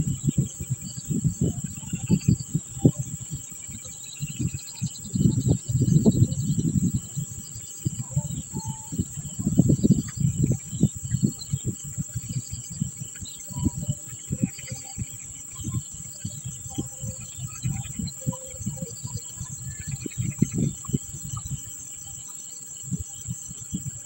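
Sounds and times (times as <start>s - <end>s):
faint bird chirps: 0.0s - 24.0s
high insect drone: 0.0s - 24.0s.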